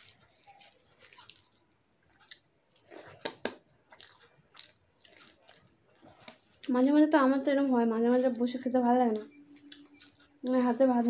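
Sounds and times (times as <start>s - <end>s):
chewing: 0.0s - 3.2s, 3.8s - 10.9s
wet squishes of food mixed by hand: 0.0s - 11.0s.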